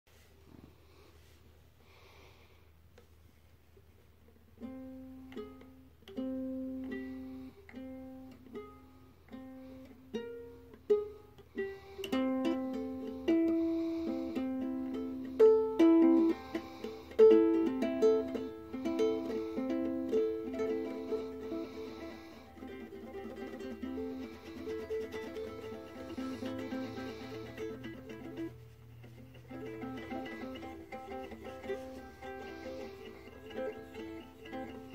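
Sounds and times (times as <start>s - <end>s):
ukulele being plucked: 4.5s - 34.9s.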